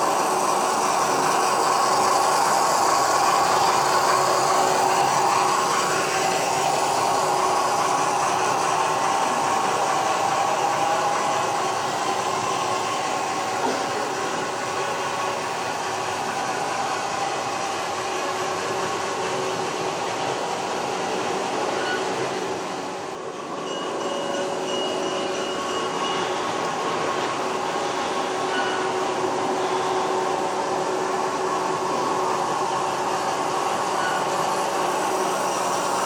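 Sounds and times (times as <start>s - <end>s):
model train humming with whine: 0.0s - 36.0s.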